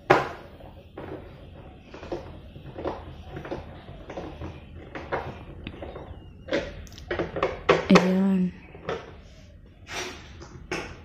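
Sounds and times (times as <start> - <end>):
plastic toy car knocking and rattling: 0.0 - 9.2, 10.4 - 11.0.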